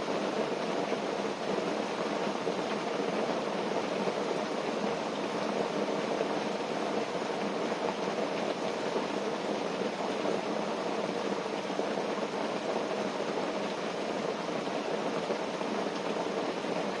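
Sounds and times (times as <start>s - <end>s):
rain on a tent: 0.0s - 17.0s.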